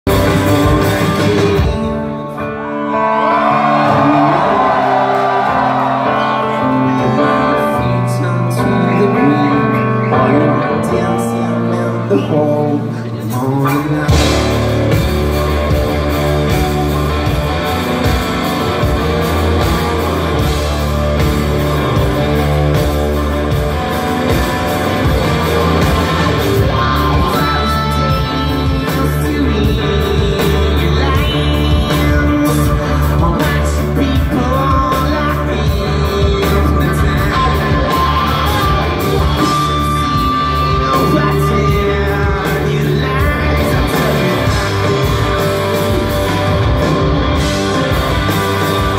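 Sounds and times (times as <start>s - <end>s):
live rock band playing: 0.0s - 48.9s
person singing: 0.0s - 48.9s.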